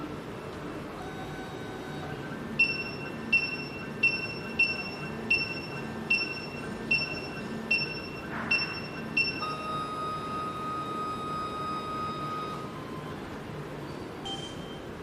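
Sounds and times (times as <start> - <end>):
key machine high-pitched tones: 1.0 - 13.3.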